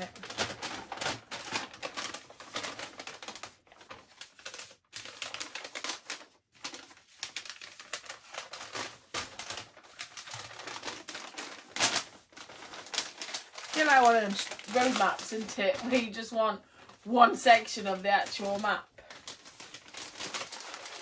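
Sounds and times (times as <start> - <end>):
paper rustling and crackling: 0.0 - 21.0.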